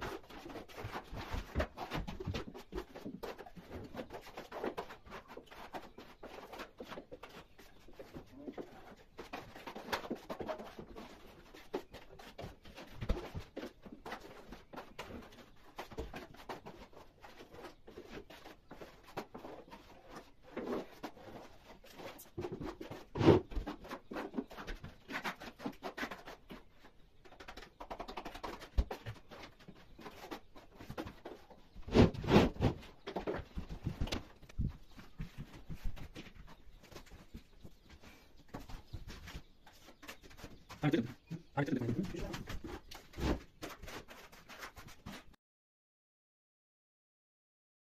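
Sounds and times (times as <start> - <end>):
plastering tools scraping plaster: 0.0 - 45.4.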